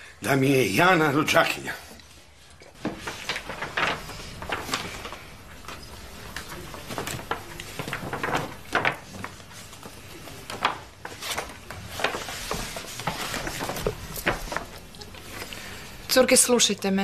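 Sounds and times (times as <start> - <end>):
paper bag rustling and crinkling: 2.4 - 16.3.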